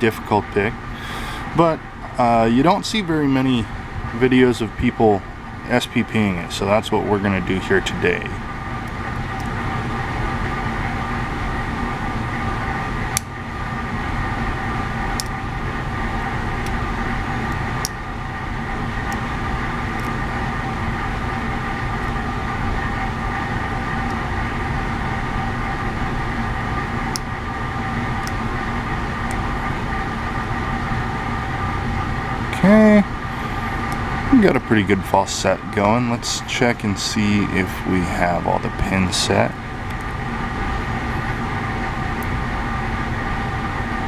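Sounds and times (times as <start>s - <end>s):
ship machinery drone: 0.0s - 44.0s.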